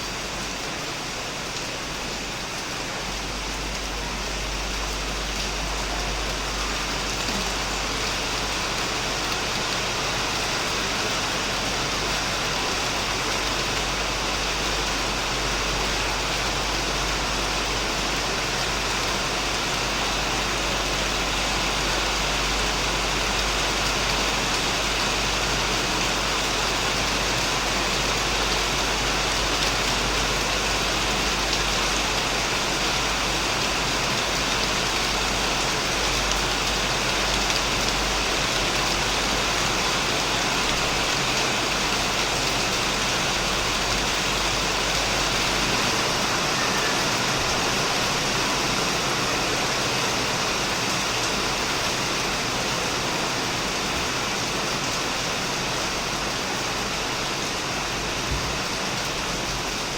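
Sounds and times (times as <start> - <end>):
heavy rain on a shed roof: 0.0 - 59.9.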